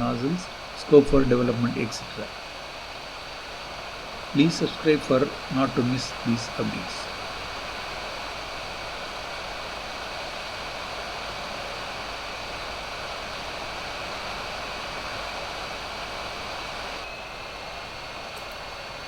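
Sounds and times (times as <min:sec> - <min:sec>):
fan blowing air with whine: 0:00.0 - 0:19.0.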